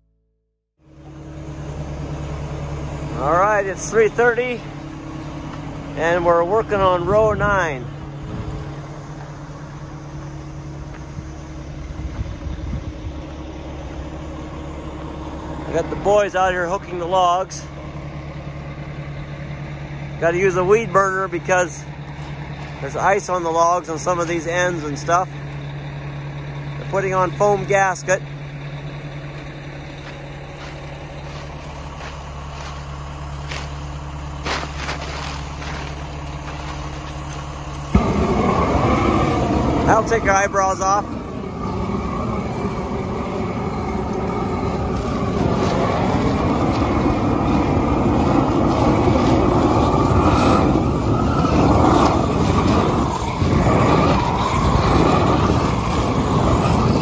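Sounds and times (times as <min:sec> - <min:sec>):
crane engine idling: 0:00.8 - 0:57.0.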